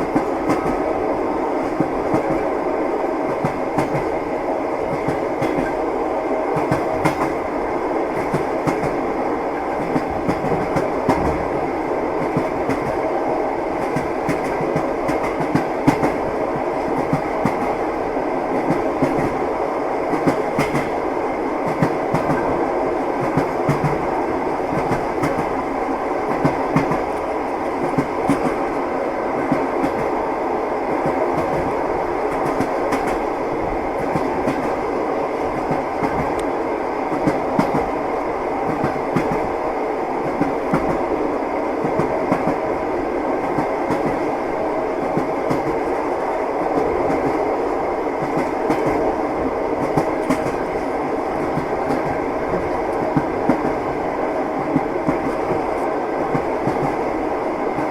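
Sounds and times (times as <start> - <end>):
train rumble: 0.0 - 57.9.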